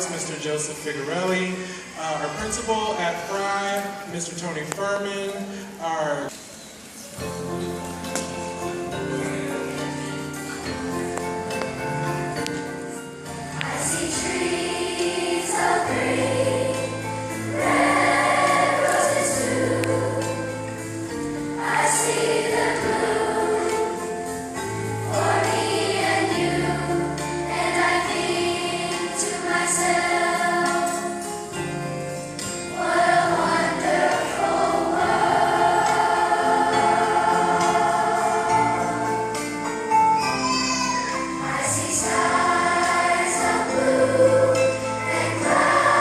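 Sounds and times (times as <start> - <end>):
instrumental accompaniment: 6.3 - 46.0
children's choir singing: 8.3 - 46.0.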